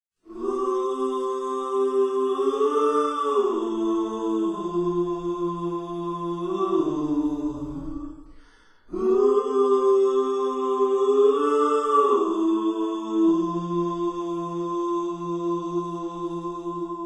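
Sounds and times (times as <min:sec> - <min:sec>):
slow chant-like singing: 0:00.2 - 0:17.0.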